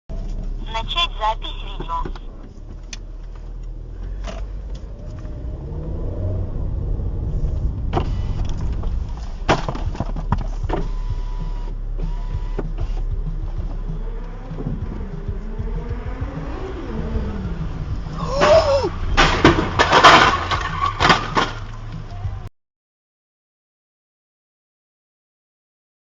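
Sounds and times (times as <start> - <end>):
car engine: 0.1 - 22.5
road noise: 0.1 - 22.5.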